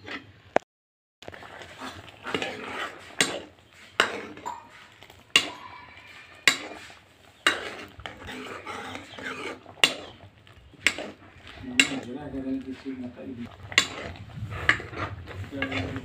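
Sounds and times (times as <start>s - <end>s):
ladle stirring liquid: 1.2s - 16.0s.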